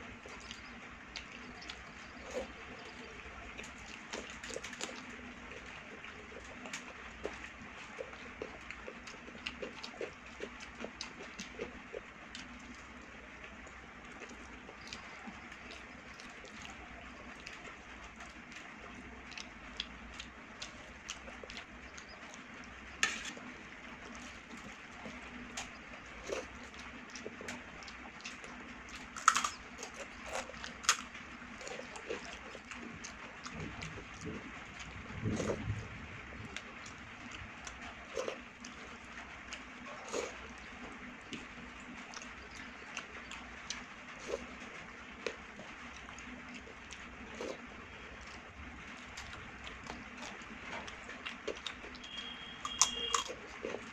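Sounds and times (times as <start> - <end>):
chewing: 0.0 - 53.9.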